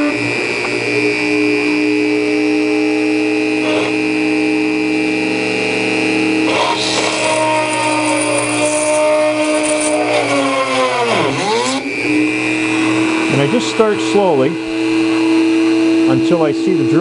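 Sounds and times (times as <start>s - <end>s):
drill bit scratching metal: 0.0s - 17.0s
rotary tool high whine: 0.0s - 17.0s.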